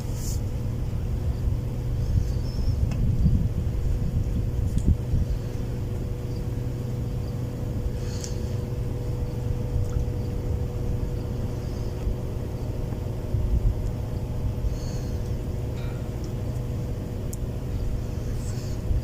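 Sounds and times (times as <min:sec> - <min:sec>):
faint hum: 0:00.0 - 0:19.0
low mechanical rumble: 0:00.0 - 0:19.0.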